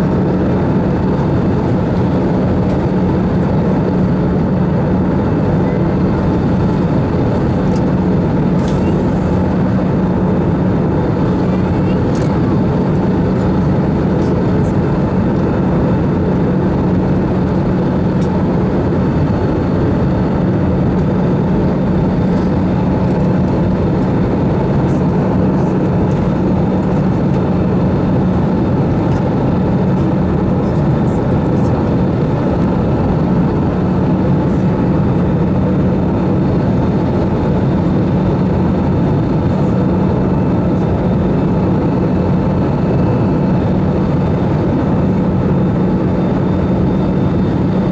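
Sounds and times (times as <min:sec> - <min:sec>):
low engine drone: 0:00.0 - 0:47.9.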